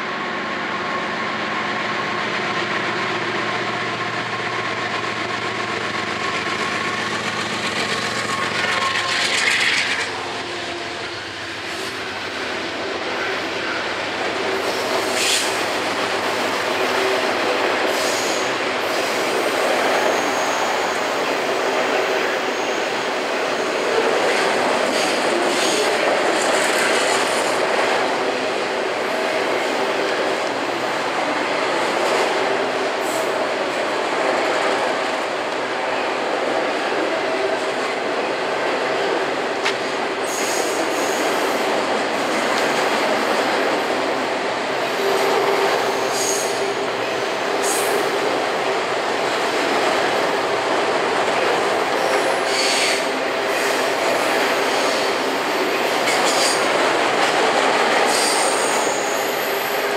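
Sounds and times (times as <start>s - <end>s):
diesel locomotive engine drone: 0.0s - 59.9s
train wheels rumbling and clattering: 0.0s - 59.9s.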